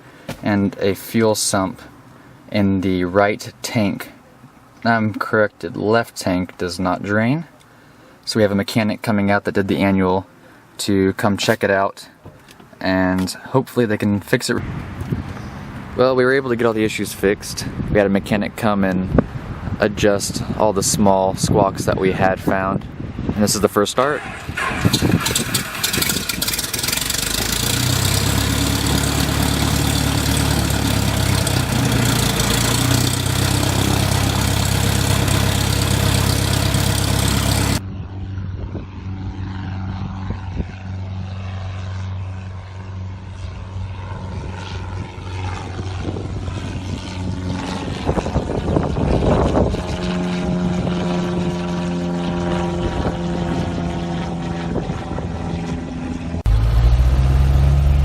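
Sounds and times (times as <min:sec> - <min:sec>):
airplane engine and propeller running: 0:00.0 - 0:58.0.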